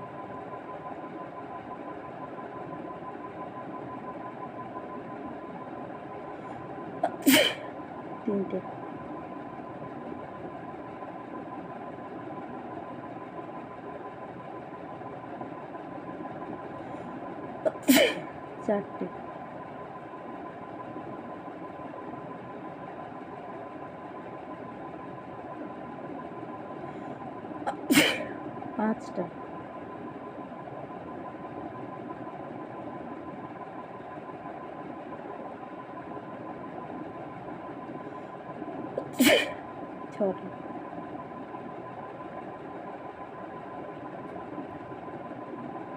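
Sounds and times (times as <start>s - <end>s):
faint steady whine: 0.0s - 45.9s
steady mechanical hum: 0.0s - 45.9s.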